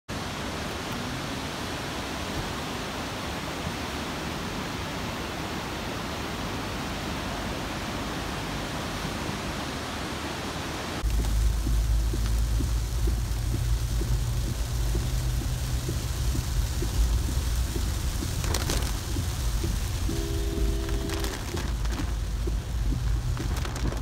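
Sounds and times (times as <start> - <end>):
rain falling on forest: 0.1 - 24.0.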